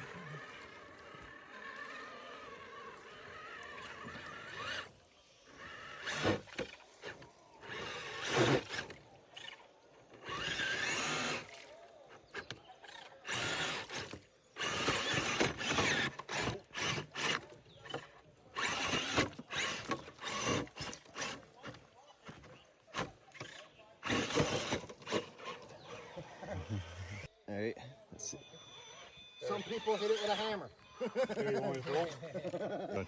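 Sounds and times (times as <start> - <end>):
small electric motor whirring: 0.0 - 27.3, 28.3 - 32.2.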